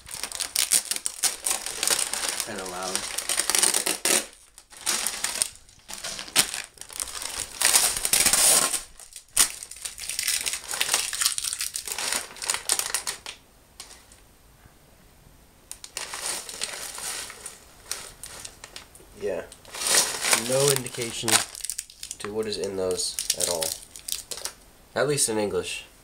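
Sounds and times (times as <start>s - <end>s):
plastic chip bags crinkling: 0.0s - 14.2s, 15.7s - 24.6s.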